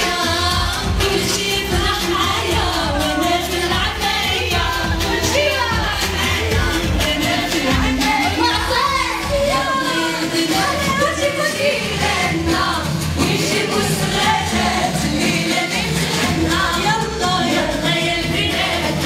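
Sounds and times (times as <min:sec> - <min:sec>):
loud music: 0:00.0 - 0:19.0
women singing into microphones: 0:00.0 - 0:19.0.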